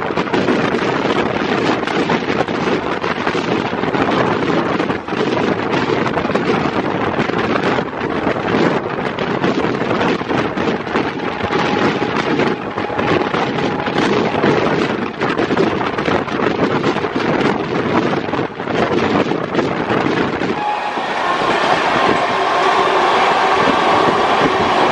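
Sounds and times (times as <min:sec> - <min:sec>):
train running rumble: 0:00.0 - 0:24.9
wind buffeting microphone: 0:00.0 - 0:24.9.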